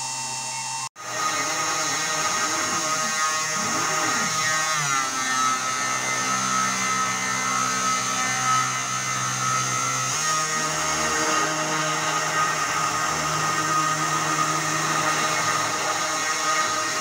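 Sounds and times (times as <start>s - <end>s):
spindle motor whining: 0.0s - 17.0s
stepper motors humming: 0.0s - 17.0s.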